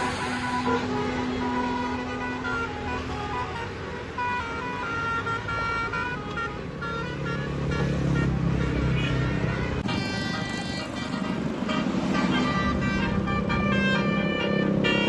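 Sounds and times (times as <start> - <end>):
bus engine rumble: 0.0 - 15.0
multi-tone bus horn tune: 0.0 - 15.0.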